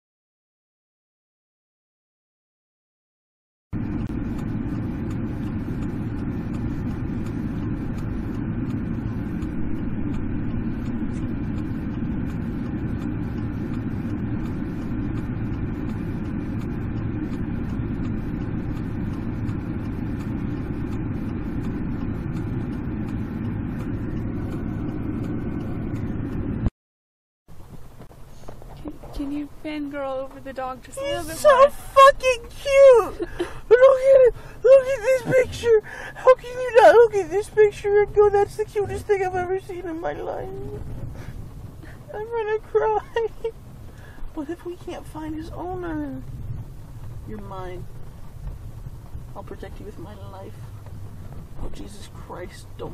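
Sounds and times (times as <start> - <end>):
car engine idling: 3.8 - 26.7, 27.5 - 52.9.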